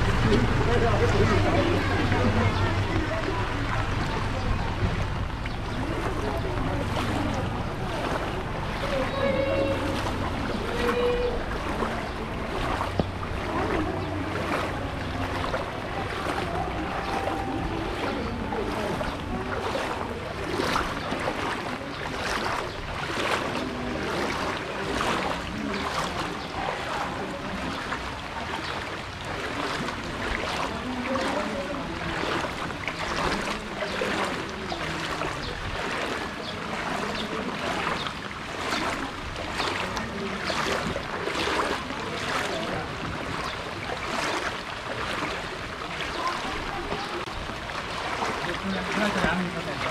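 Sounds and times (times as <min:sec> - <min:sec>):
feet wading through water: 0:00.0 - 0:49.9.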